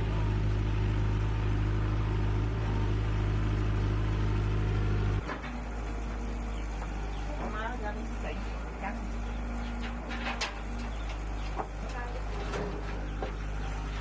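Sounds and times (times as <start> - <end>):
machine engine deep hum: 0.0 - 14.0.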